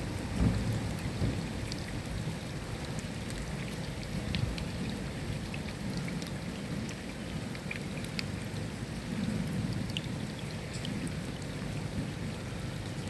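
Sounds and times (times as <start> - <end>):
rain drops ticking on a surface: 0.0 - 13.0.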